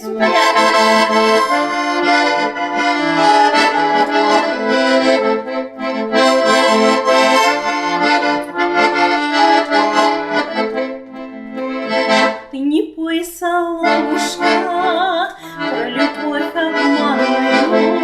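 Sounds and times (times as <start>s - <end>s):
accordion playing: 0.0s - 12.6s, 13.8s - 18.0s.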